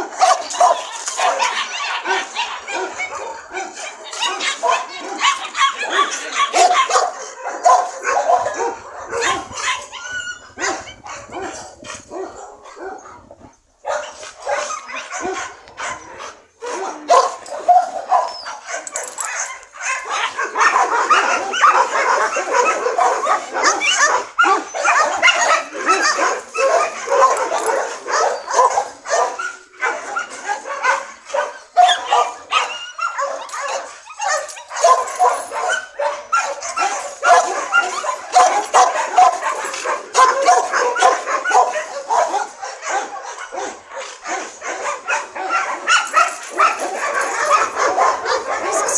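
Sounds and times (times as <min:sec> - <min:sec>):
dogs barking and whimpering: 0:00.0 - 0:48.9.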